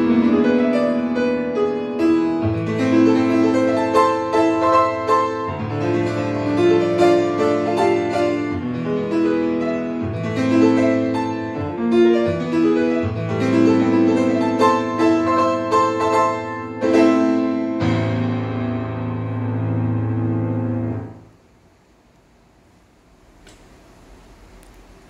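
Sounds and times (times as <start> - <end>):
grand piano playing: 0.0 - 21.3.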